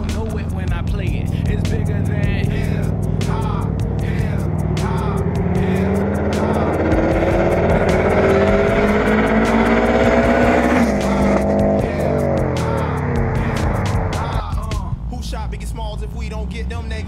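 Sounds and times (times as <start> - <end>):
car engine accelerating: 0.0 - 17.0
hip-hop music with steady beat: 0.0 - 17.0.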